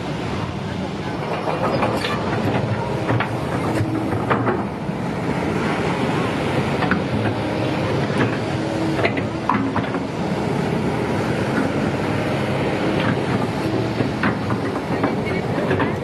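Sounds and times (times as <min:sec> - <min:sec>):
waves breaking on a beach: 0:02.2 - 0:16.0.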